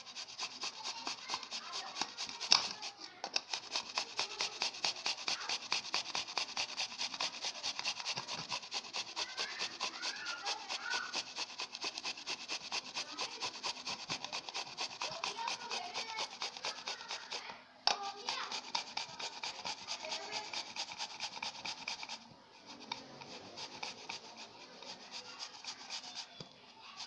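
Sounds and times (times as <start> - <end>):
apple rasping on metal grater: 0.0 - 27.0.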